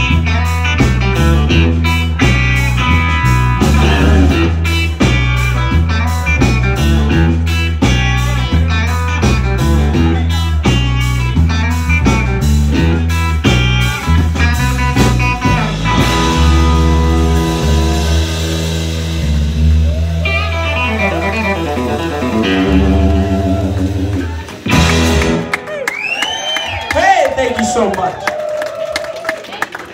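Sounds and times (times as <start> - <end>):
blues band playing: 0.0 - 29.3.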